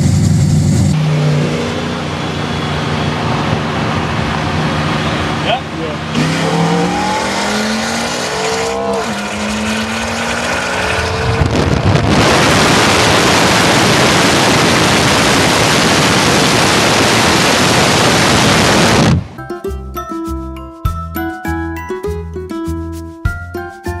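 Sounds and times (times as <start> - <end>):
car engine revving: 0.0 - 19.3
loud even rush of noise: 0.0 - 19.4.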